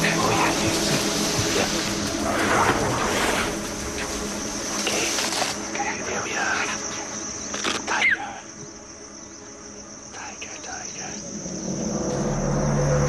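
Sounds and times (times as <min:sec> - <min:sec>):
insect chorus: 0:00.0 - 0:13.0.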